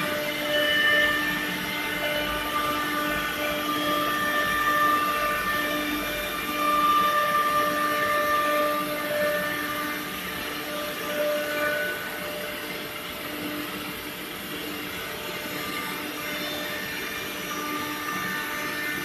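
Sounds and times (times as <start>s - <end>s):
wood router spindle whine: 0.0s - 19.0s.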